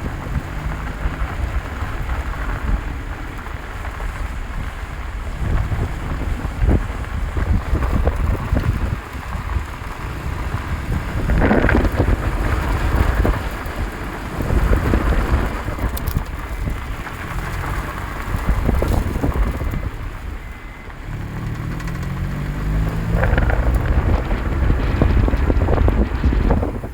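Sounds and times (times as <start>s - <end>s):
car engine rising: 0.0s - 26.9s
wind and road noise: 0.0s - 26.9s.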